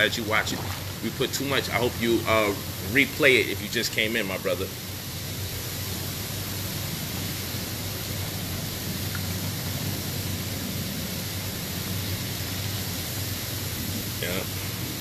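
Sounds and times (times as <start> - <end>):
hot tub jets churning water: 0.0 - 15.0.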